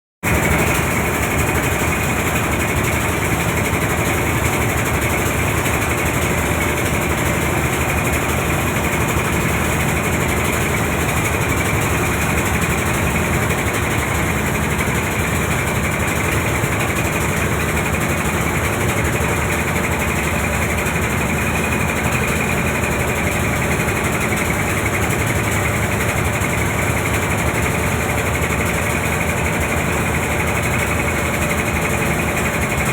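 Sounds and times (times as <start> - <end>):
boat engine droning: 0.3 - 32.9.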